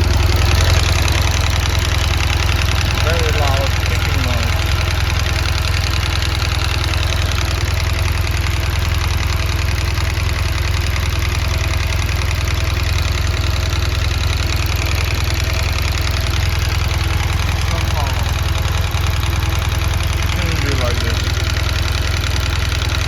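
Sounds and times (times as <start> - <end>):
fast engine ticking: 0.0 - 23.0
motorcycle engine idling: 0.0 - 23.0.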